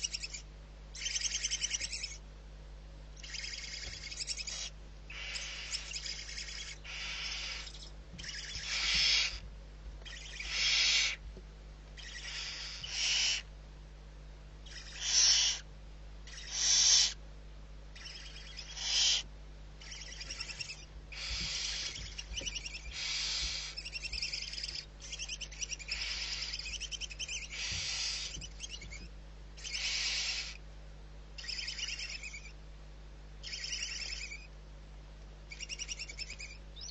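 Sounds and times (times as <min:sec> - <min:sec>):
barn owl screeching: 0:00.0 - 0:02.2, 0:03.2 - 0:09.4, 0:10.0 - 0:11.2, 0:12.0 - 0:13.5, 0:14.6 - 0:17.2, 0:18.0 - 0:30.6, 0:31.4 - 0:32.6, 0:33.4 - 0:34.5, 0:35.5 - 0:36.9.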